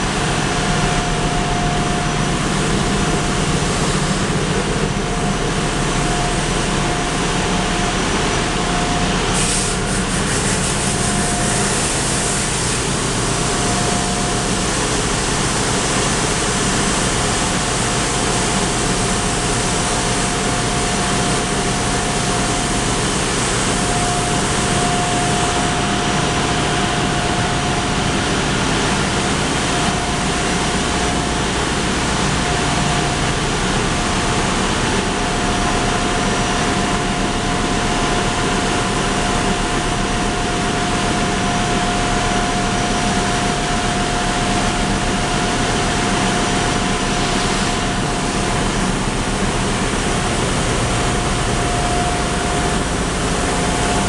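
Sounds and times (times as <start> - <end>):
engine room machinery drone: 0.0 - 54.0
high machinery whine: 0.0 - 54.0.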